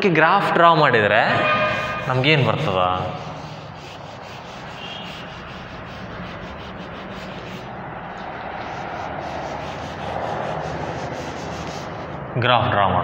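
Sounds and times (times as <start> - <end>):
steady background noise: 0.0 - 13.0
duster rubbing chalkboard: 1.3 - 12.2.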